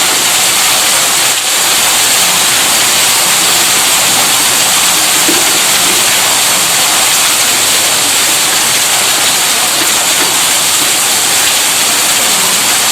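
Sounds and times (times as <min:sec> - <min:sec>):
electric pump rushing water: 0:00.0 - 0:12.9.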